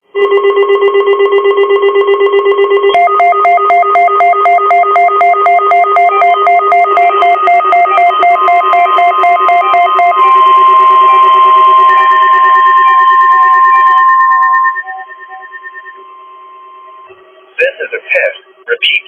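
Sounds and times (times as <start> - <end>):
two-note alternating beeps: 0.2 - 17.6
low electronic beep pulsing: 0.2 - 18.7.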